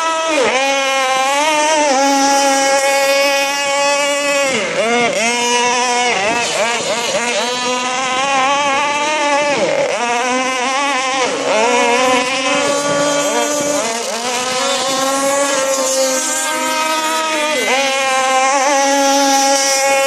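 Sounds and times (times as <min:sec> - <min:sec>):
small boat engine revving: 0:00.0 - 0:20.0.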